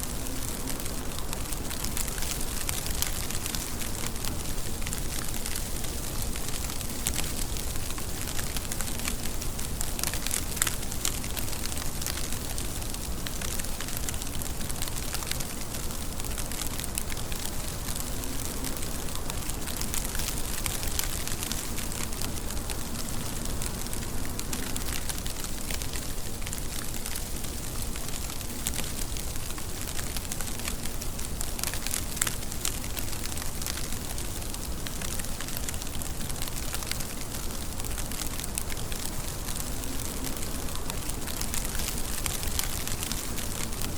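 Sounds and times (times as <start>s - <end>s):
raindrop ticks: 0.0s - 43.9s
steady rain hiss: 0.0s - 43.9s.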